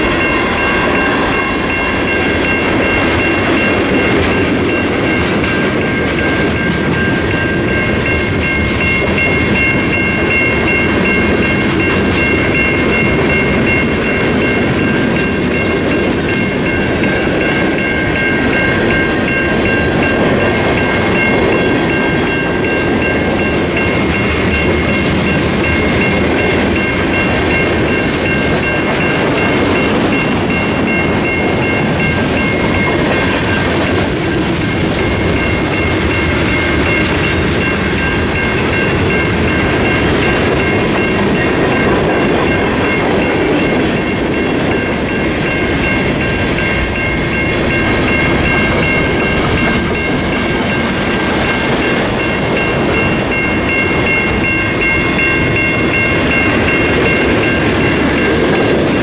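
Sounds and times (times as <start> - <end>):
electronic crossing bell ringing: 0.0 - 59.0.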